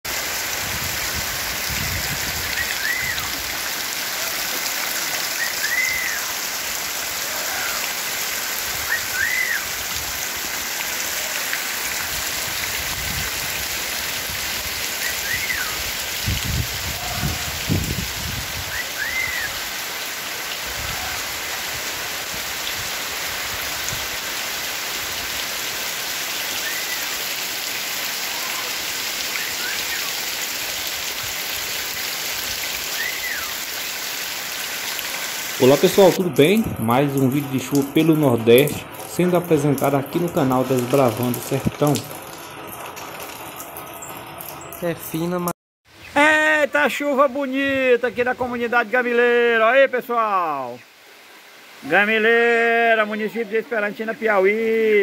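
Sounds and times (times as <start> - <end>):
heavy rain splashing: 0.0 - 55.0.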